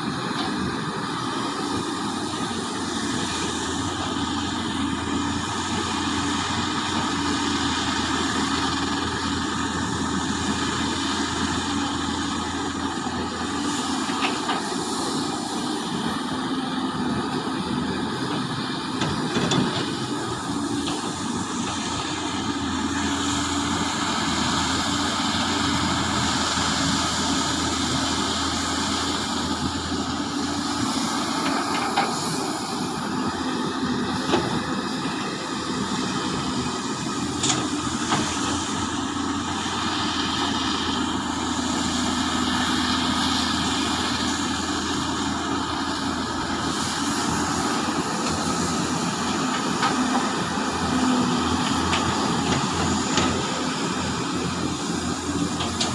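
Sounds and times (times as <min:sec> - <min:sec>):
diesel machinery engine drone: 0:00.0 - 0:55.9.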